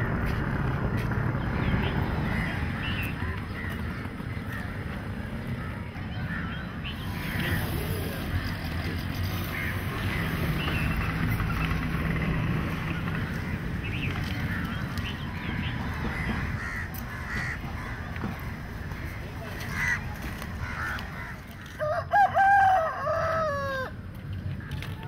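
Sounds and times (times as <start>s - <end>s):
birds calling: 1.2s - 25.0s.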